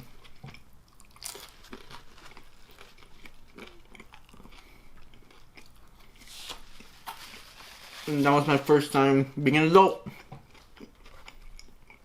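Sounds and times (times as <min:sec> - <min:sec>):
person chewing food: 0:00.0 - 0:07.8, 0:10.0 - 0:12.0.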